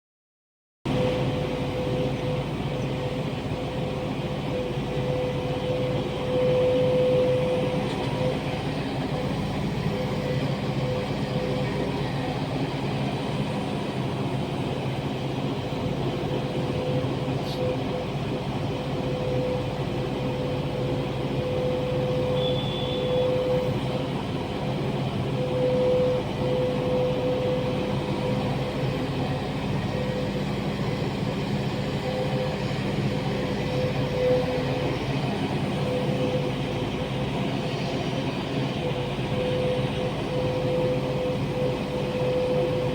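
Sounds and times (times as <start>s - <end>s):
excavator diesel engine running: 0.9s - 42.9s
hydraulic whine: 0.9s - 42.9s.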